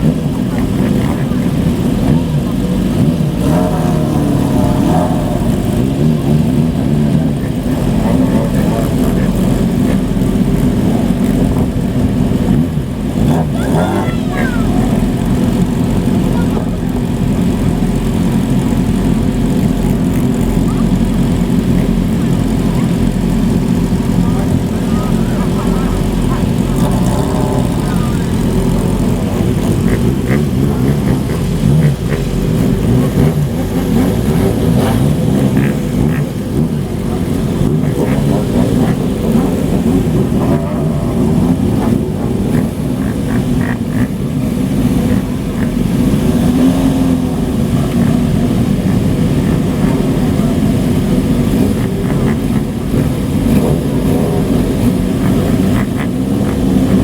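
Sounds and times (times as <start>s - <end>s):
motorcycles riding past: 0.0s - 57.0s.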